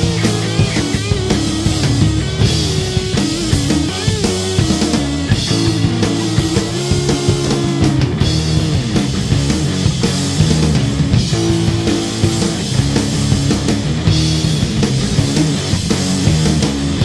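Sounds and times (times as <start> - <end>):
bass guitar: 0.0 - 17.0
distorted electric guitar: 0.0 - 17.0
drum kit: 0.0 - 17.0.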